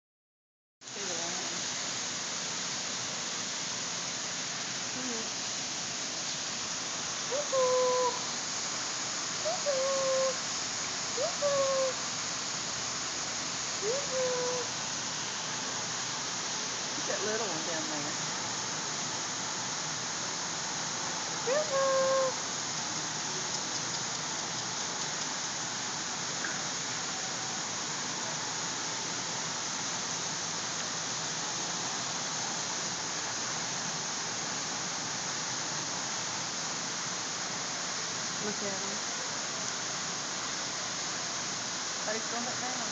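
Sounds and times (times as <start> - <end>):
falling water hiss: 0.8 - 42.9.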